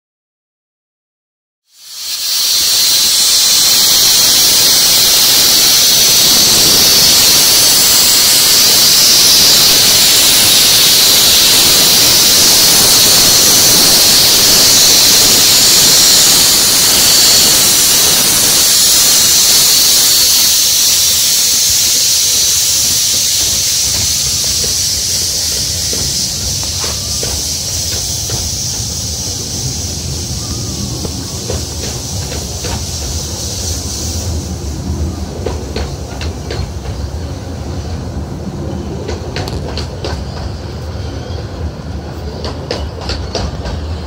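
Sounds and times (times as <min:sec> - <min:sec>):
steam locomotive hissing steam: 0:01.6 - 0:44.0.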